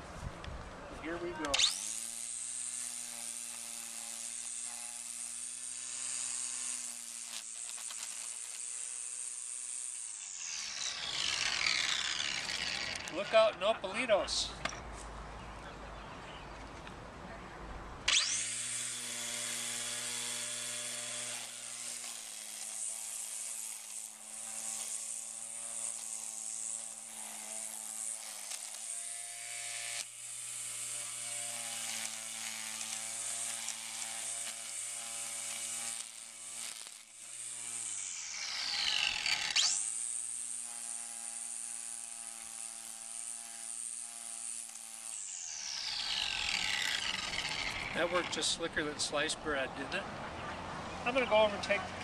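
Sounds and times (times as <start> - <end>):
string trimmer motor whine: 1.2 - 13.7, 18.1 - 48.6.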